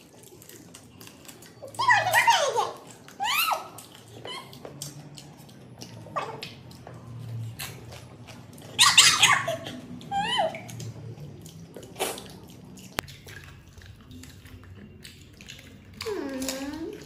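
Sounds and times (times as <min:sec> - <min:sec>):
wet slurping and crunching: 0:00.0 - 0:17.0.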